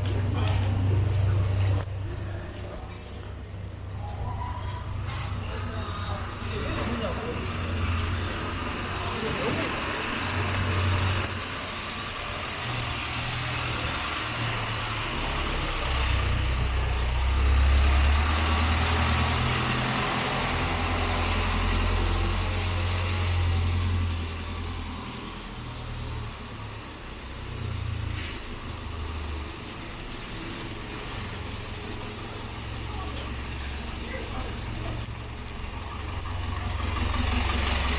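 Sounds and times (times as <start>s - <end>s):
vehicle engines idling: 0.0s - 37.9s.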